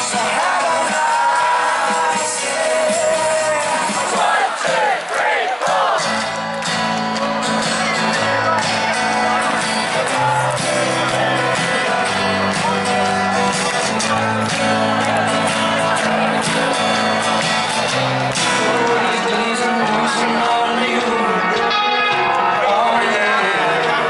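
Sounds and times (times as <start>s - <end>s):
live band music over pa: 0.0s - 4.9s, 5.6s - 24.0s
person singing: 0.0s - 4.9s, 7.8s - 24.0s.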